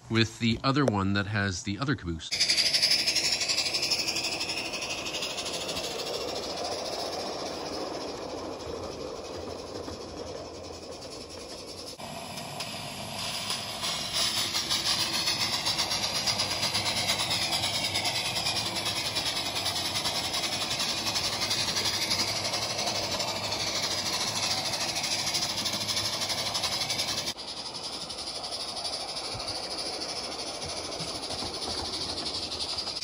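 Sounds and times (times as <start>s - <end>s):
steam locomotive exhaust chuffs: 0.0s - 33.0s
steam hissing: 2.3s - 33.0s.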